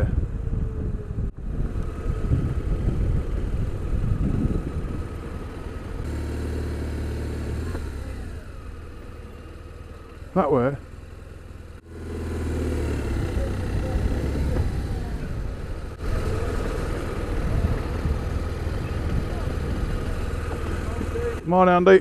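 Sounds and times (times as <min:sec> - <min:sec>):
wind and road noise: 0:00.0 - 0:22.0
motorcycle engine running: 0:00.3 - 0:21.6.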